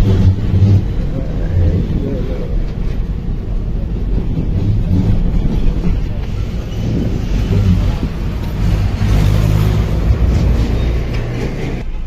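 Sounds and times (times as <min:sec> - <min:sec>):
bus engine hum: 0:00.0 - 0:12.0
road noise: 0:00.0 - 0:12.0.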